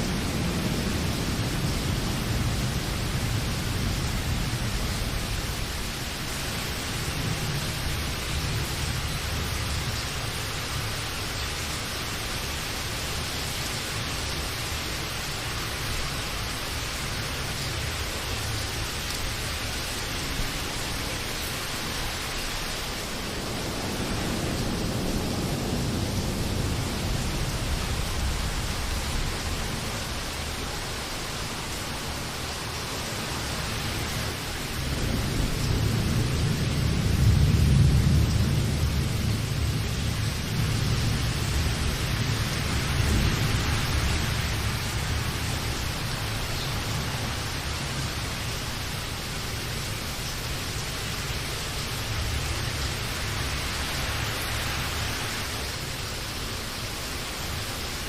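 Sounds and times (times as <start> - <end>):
distant thunder rumble: 0.0 - 11.0, 13.9 - 50.1
rain hiss: 0.0 - 58.0.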